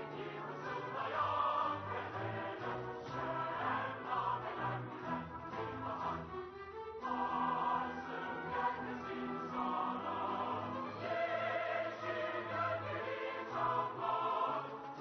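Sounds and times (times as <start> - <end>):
choir singing held chords: 0.0 - 15.0
symphony orchestra: 0.0 - 15.0.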